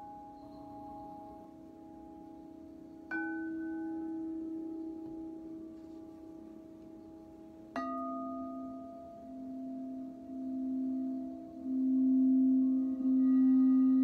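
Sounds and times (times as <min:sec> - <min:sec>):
singing bowl ringing: 0:00.0 - 0:05.7, 0:07.0 - 0:14.0.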